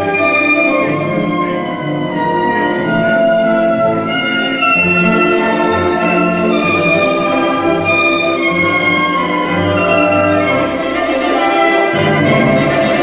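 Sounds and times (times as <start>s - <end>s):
orchestral waltz music: 0.0s - 13.0s.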